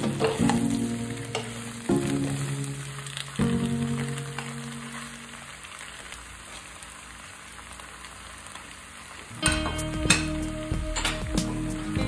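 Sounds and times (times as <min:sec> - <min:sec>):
stir-fry sizzling in a wok: 0:00.0 - 0:12.0.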